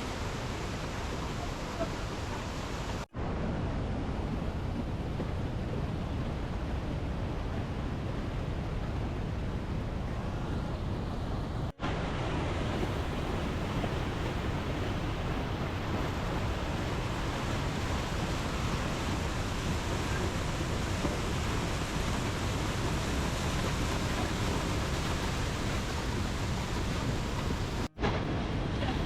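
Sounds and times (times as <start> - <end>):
fast-flowing water rushing: 0.0 - 8.2, 10.3 - 29.0.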